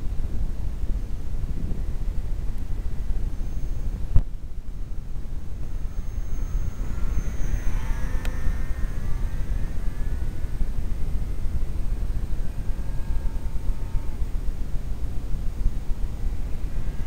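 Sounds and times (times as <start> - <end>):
model plane motor whine: 0.0 - 17.0
wind rumble on microphone: 0.0 - 17.0.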